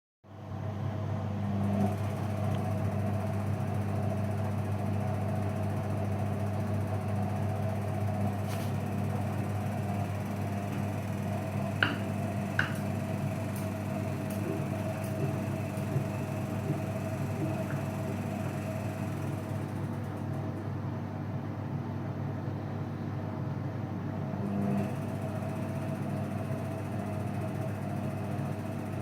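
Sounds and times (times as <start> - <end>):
washing machine humming: 0.3 - 29.0.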